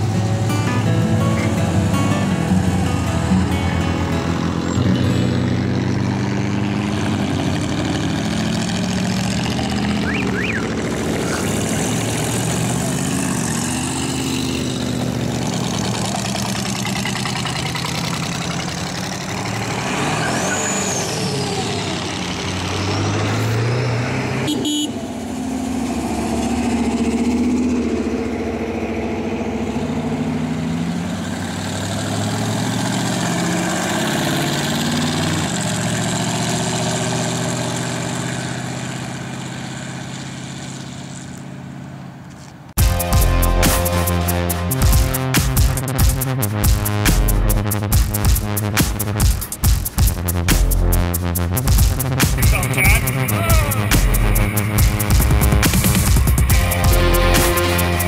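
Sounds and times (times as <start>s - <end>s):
old car engines passing: 0.0s - 58.0s.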